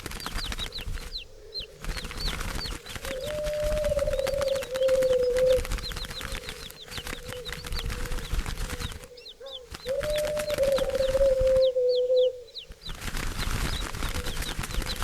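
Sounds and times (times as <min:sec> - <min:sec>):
birds chirping: 0:00.0 - 0:15.0
wings fluttering and clicks: 0:00.0 - 0:15.0
long low bird call: 0:00.6 - 0:12.8.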